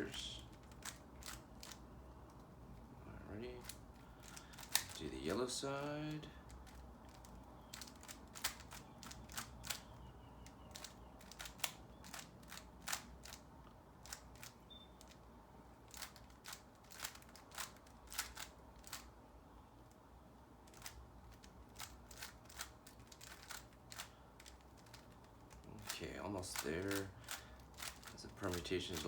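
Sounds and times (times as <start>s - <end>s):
plastic puzzle cube clicking: 0.2s - 2.4s, 3.6s - 5.0s, 6.1s - 15.2s, 15.9s - 19.1s, 20.7s - 29.0s.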